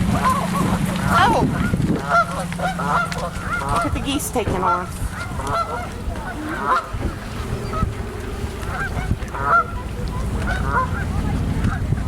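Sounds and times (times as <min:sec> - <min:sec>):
geese honking: 0:00.0 - 0:12.0
wind on microphone: 0:00.0 - 0:12.0.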